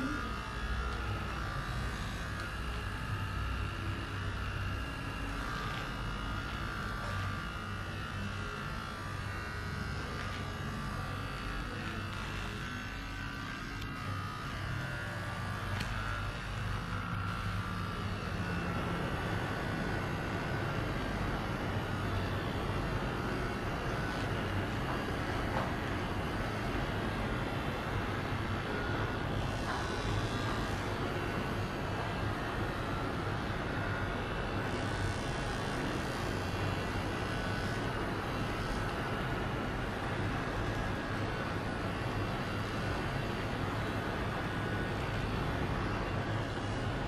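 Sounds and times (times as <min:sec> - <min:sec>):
electric microneedling pen buzzing: 0:00.0 - 0:47.0.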